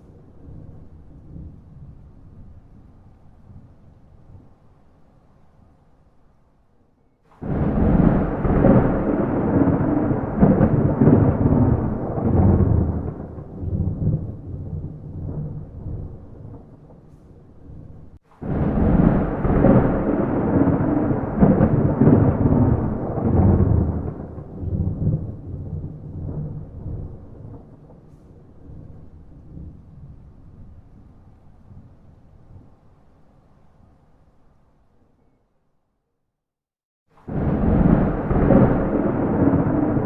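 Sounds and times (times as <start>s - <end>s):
thunder rumbling: 0.0s - 4.6s, 7.3s - 32.8s, 37.2s - 40.0s.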